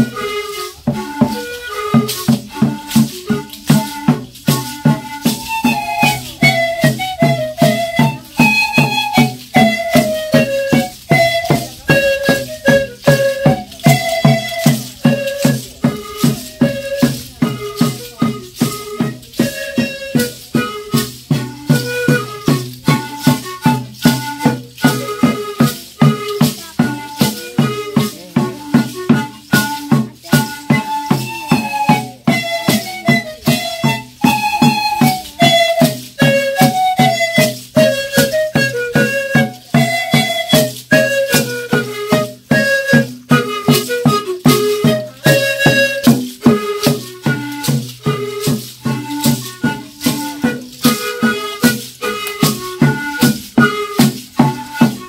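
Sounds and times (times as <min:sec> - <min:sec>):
rattles shaken on a beat: 0:00.0 - 0:55.0.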